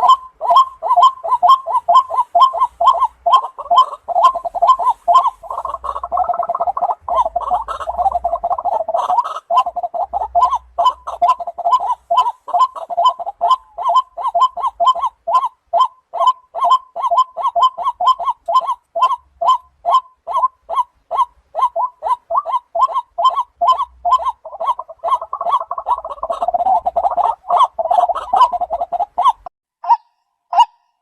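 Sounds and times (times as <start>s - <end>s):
waterhen calling: 0.0s - 30.9s.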